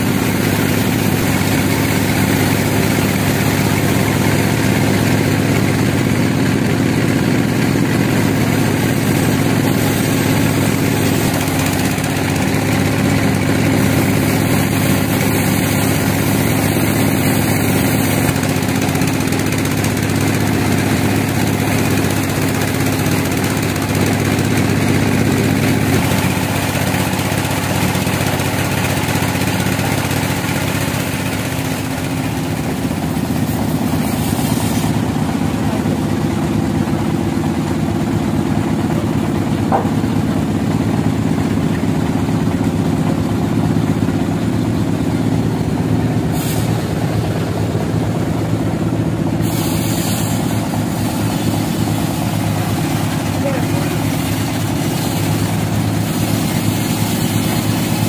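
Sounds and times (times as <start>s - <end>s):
band sawmill drone: 0.0s - 58.0s.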